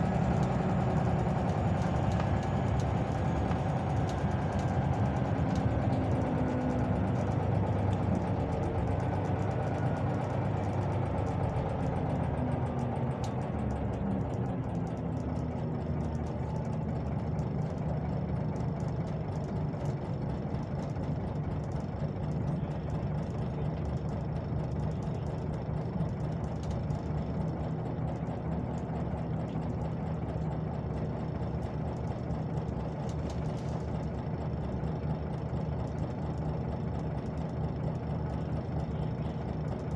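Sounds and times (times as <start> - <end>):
bus engine slowing and idling: 0.0 - 39.9.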